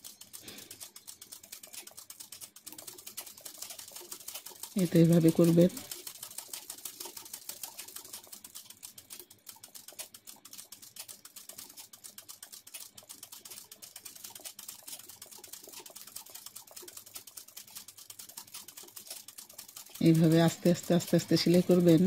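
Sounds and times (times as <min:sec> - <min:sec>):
sewing machine stitching: 0:00.0 - 0:22.0.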